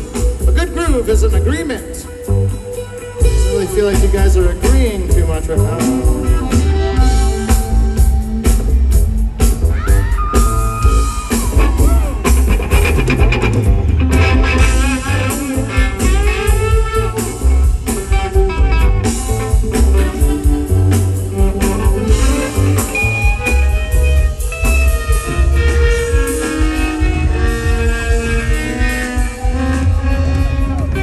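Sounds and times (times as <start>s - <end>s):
drum kit: 0.0s - 31.0s
electric guitar: 0.0s - 31.0s
upright bass: 0.0s - 31.0s.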